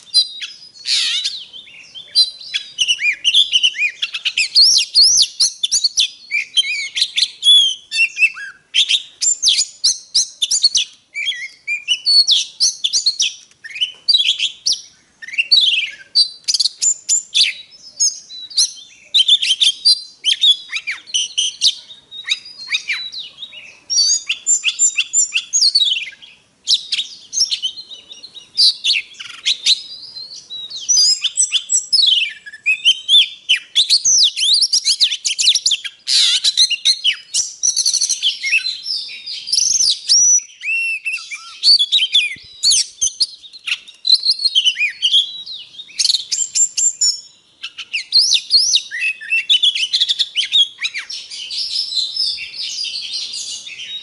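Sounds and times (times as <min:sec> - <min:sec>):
bird singing whistled trills: 0:00.0 - 0:54.0.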